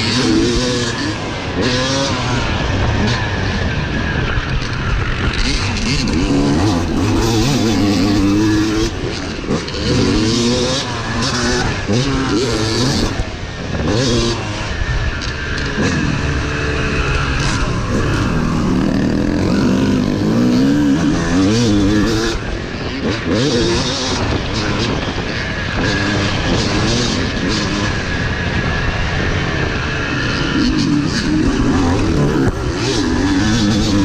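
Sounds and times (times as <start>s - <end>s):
dirt bike engine revving: 0.0s - 34.0s
steady rush of noise: 0.0s - 34.0s.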